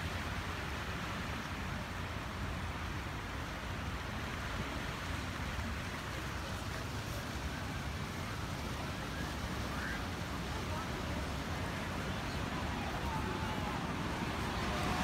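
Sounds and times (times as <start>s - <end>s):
ocean surf washing over rocks: 0.0s - 15.0s.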